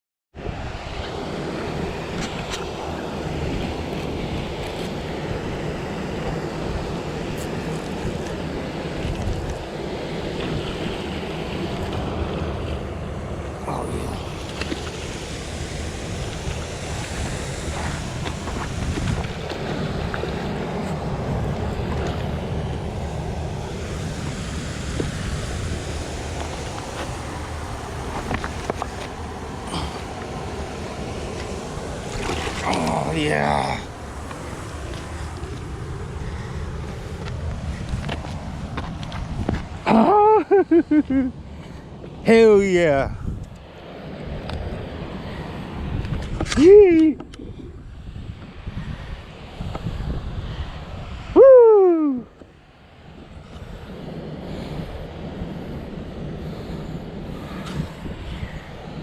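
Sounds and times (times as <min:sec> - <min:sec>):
wind buffeting microphone: 0:00.4 - 0:59.0.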